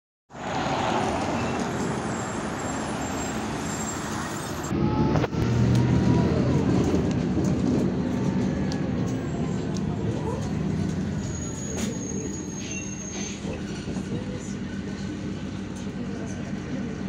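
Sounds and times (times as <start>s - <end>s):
bus engine running: 0.3s - 17.0s
traffic noise: 0.3s - 17.0s.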